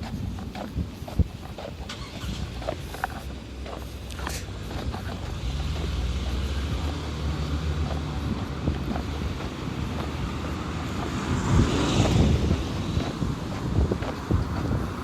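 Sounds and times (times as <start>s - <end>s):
low engine hum: 0.0s - 15.0s
vehicle passing close: 0.0s - 15.0s
wind buffeting microphone: 0.0s - 15.0s.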